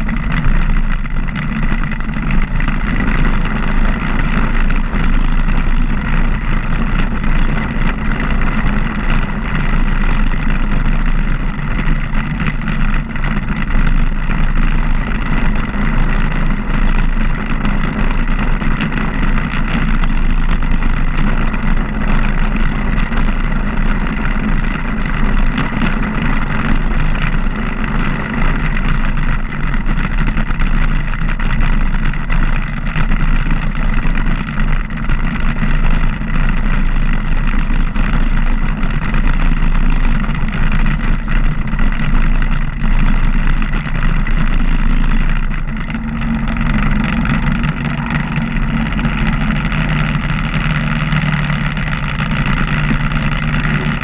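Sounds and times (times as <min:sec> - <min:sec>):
motorcycle engine running: 0:00.0 - 0:54.0
riding over cobblestones: 0:00.0 - 0:54.0.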